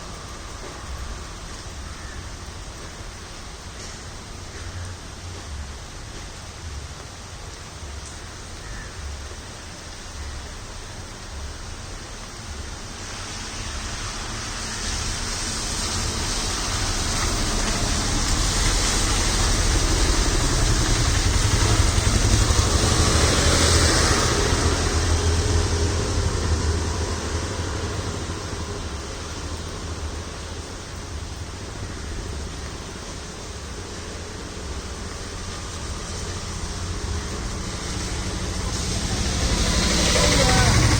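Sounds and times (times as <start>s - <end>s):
steady rain: 0.0s - 40.9s
tyres hissing on wet road: 0.0s - 40.9s
vehicle engine rumble: 0.0s - 40.9s.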